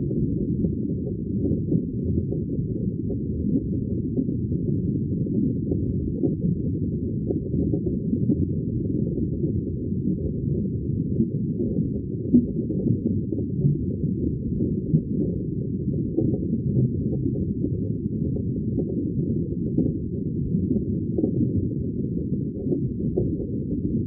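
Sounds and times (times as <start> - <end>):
muffled river water rumble: 0.0 - 24.0.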